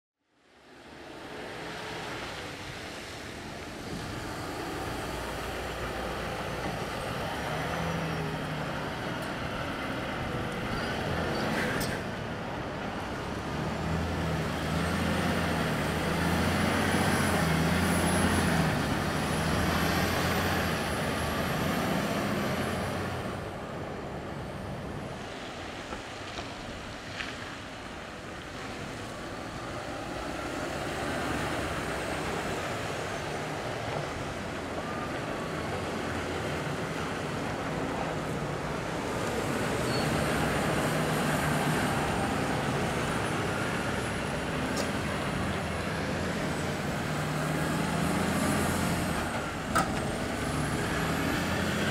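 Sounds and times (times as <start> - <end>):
diesel trucks driving past: 0.6 - 51.9.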